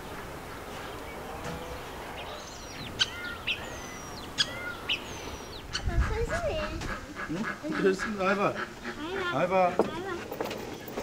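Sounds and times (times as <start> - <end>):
birds chirping: 0.0 - 11.0
steady outdoor background: 0.0 - 11.0.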